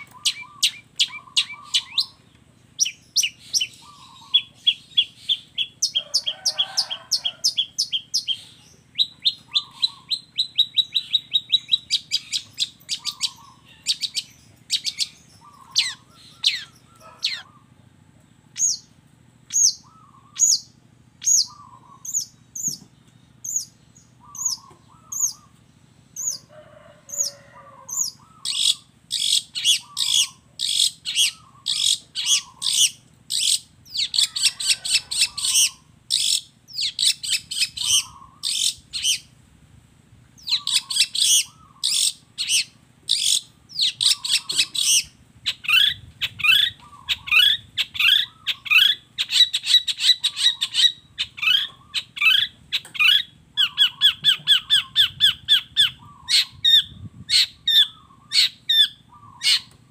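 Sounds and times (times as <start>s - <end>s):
bird singing harsh chattering song: 0.0s - 26.5s, 27.1s - 39.4s, 40.3s - 59.9s.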